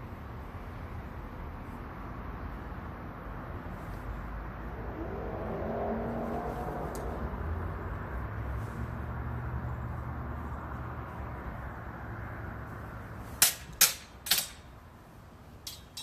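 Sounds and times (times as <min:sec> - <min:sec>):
outdoor background noise: 0:00.0 - 0:16.0
vehicle engine rumbling: 0:00.0 - 0:16.0.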